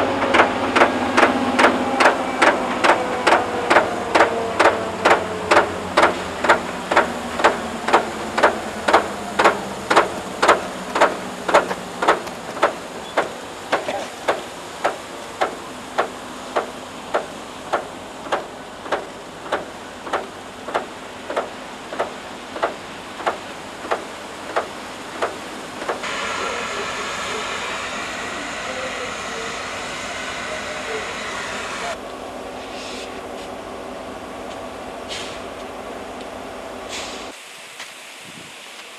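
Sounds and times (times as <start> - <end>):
snow plow rushing noise: 0.0 - 37.3.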